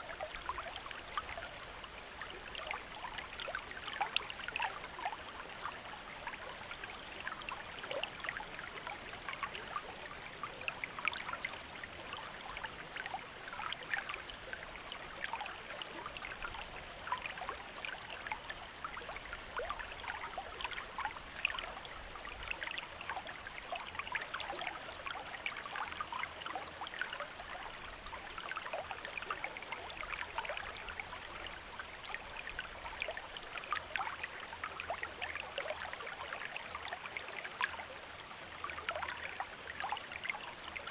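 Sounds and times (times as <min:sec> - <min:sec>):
stream trickling and bubbling: 0:00.0 - 0:40.9.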